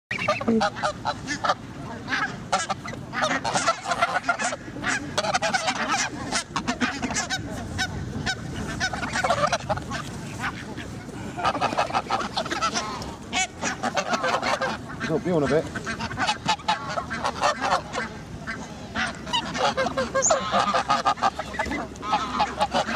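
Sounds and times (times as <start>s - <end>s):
geese honking: 0.1s - 22.9s.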